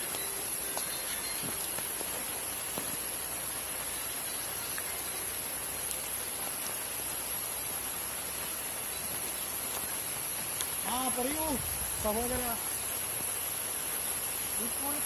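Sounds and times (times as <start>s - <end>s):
faint drip-like ticks: 0.0s - 15.0s
steady rain falling: 0.0s - 15.0s
thin steady high tone: 0.0s - 15.0s.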